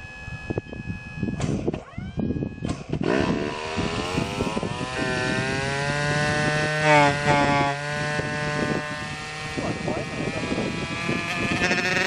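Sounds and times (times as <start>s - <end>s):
nitro engine buzzing: 0.0s - 12.0s.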